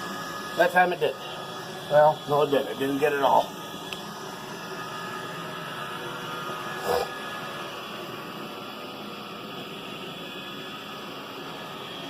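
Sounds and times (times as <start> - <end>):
robot vacuum whirring: 0.0 - 12.0.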